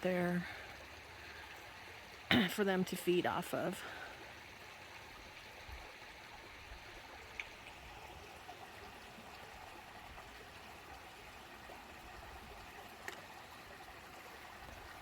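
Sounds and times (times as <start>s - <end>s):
water running from small waterfall: 0.0s - 15.0s.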